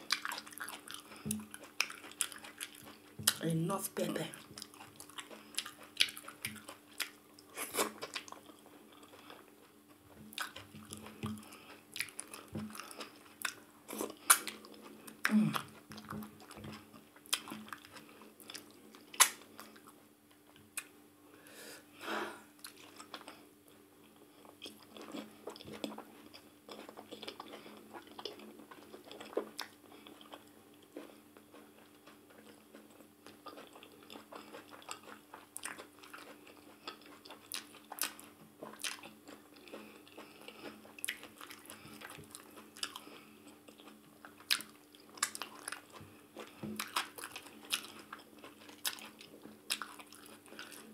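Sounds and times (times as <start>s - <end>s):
wet chewing smacks: 0.0s - 3.4s, 4.4s - 20.9s, 24.4s - 50.9s
faint steady hum: 0.0s - 50.9s.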